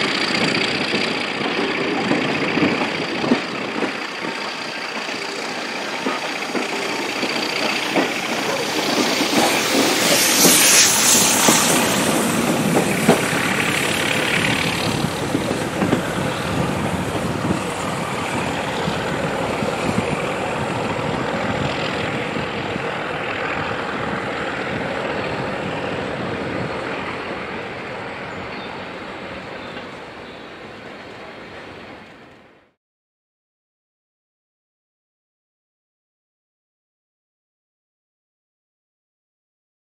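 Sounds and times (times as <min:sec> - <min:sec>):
wheels clicking over rail joints: 0:00.0 - 0:32.5
diesel locomotive working hard: 0:00.0 - 0:32.8
train rumble: 0:00.0 - 0:32.8.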